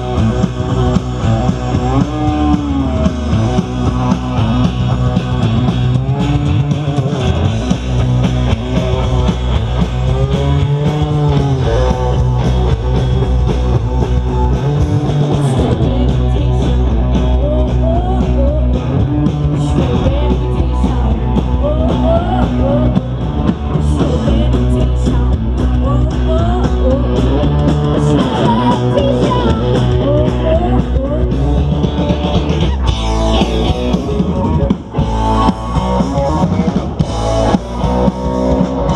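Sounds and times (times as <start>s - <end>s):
drum kit: 0.0s - 38.9s
electric guitars with bent notes: 0.0s - 38.9s.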